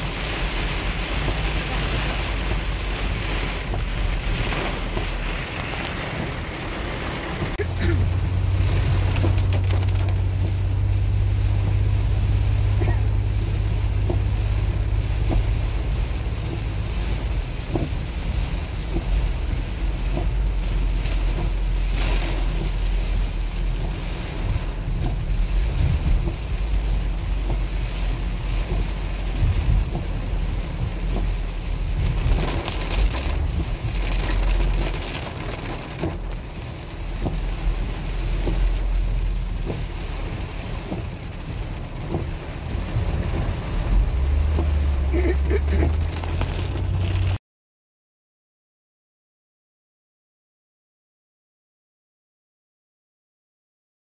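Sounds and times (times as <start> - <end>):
engine rumble: 0.0 - 47.4
heavy rain on car roof: 0.0 - 47.4
tyres on wet road: 0.0 - 47.4.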